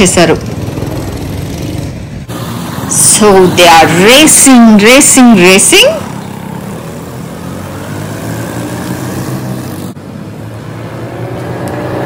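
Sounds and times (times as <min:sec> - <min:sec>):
go-kart engines racing: 0:00.0 - 0:12.0.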